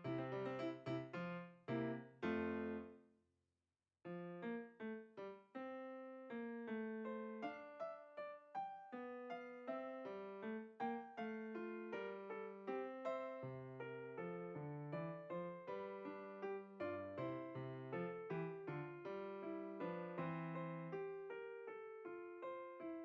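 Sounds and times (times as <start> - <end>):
light piano melody: 0.0 - 3.0, 4.1 - 23.0.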